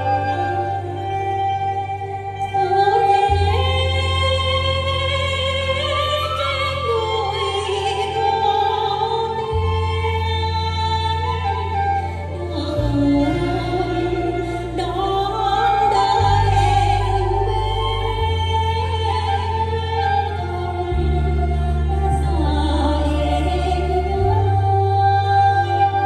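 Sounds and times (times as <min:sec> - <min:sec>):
amplified backing music: 0:00.0 - 0:26.0.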